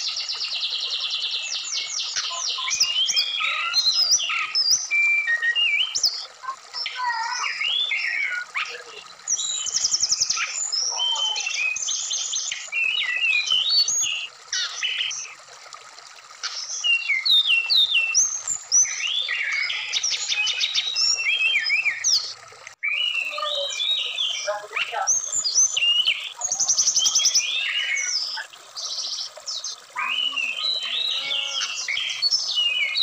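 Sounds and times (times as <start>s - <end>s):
bird singing whistled phrases: 0.0s - 15.3s, 16.6s - 33.0s
running stream water: 0.0s - 33.0s.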